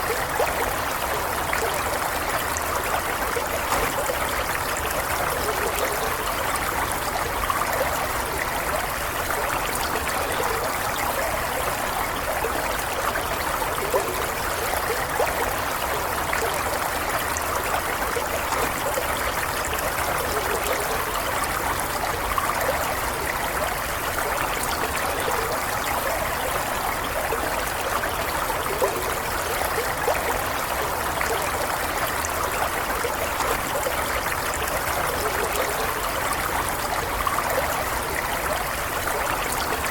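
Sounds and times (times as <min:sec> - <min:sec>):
stream running over stones: 0:00.0 - 0:39.9.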